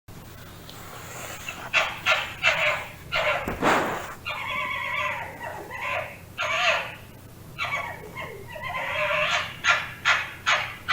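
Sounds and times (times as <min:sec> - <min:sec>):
fox yelping calls: 0:01.5 - 0:03.6, 0:04.2 - 0:10.9.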